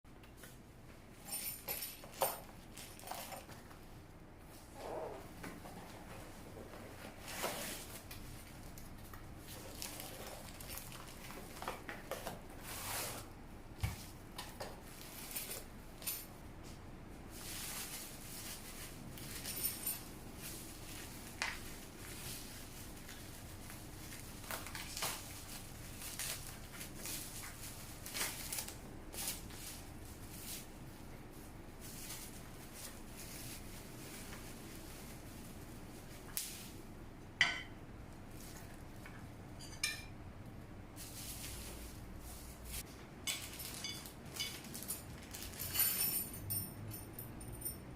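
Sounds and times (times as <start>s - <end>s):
rustling and clinking of cake plate parts: 0.4s - 3.9s, 4.6s - 16.3s, 17.3s - 36.8s, 37.4s - 40.2s, 41.0s - 47.9s.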